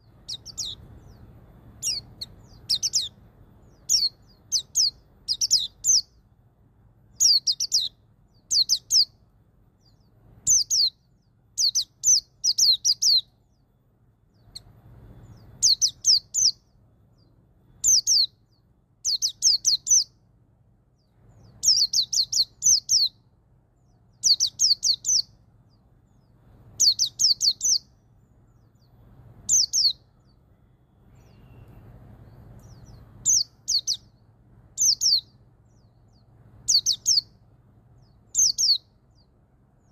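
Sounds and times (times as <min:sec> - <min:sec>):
bird singing high phrases: 0:00.0 - 0:39.9.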